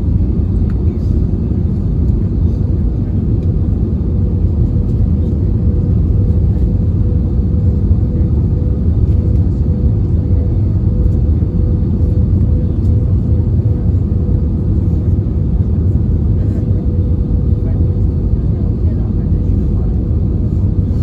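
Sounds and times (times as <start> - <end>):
airliner engine rumble: 0.0 - 21.0.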